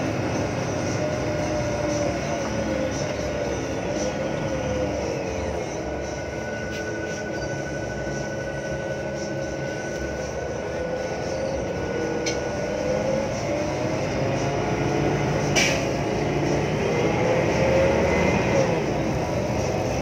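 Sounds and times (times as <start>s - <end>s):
bus engine rumble: 0.0s - 20.0s
bus transmission whine: 0.0s - 20.0s.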